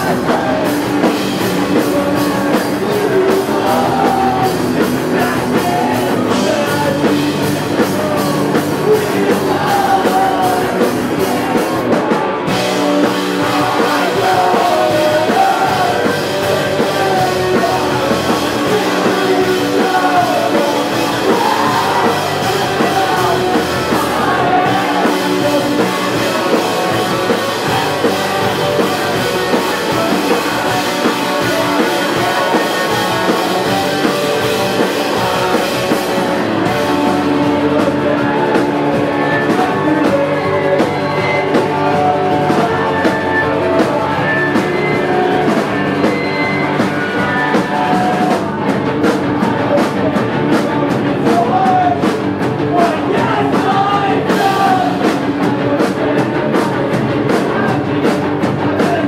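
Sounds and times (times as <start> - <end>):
drum kit: 0.0 - 59.0
electric bass: 0.0 - 59.0
electric guitar: 0.0 - 59.0
person singing: 0.0 - 59.0.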